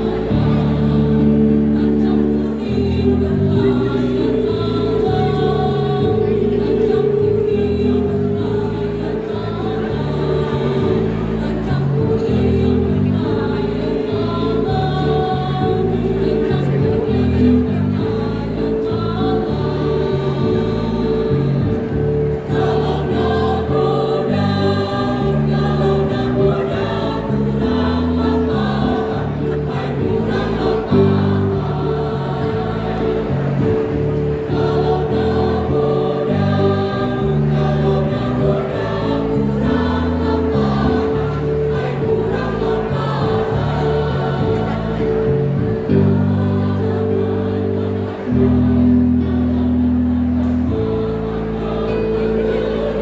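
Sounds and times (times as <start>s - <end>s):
choir singing: 0.0s - 53.0s
held low accompaniment notes: 0.0s - 53.0s.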